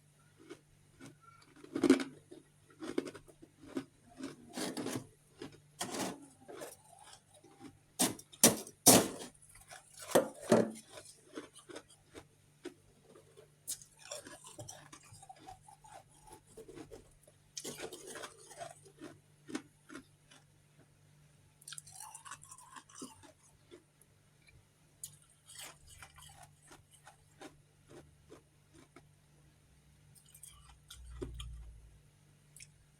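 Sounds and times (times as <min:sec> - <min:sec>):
ice chunks crunched by chewing: 0:00.4 - 0:20.9, 0:21.6 - 0:23.9, 0:25.0 - 0:29.1, 0:30.2 - 0:31.7.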